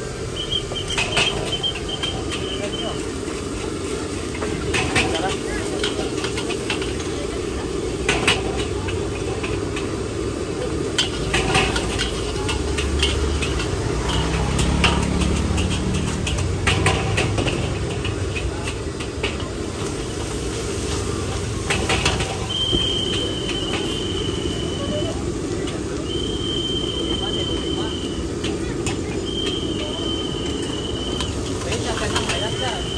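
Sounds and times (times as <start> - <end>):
low engine rumble: 0.0 - 32.9
low street hum: 0.0 - 32.9
metal utensils clanking on pans: 0.0 - 32.9.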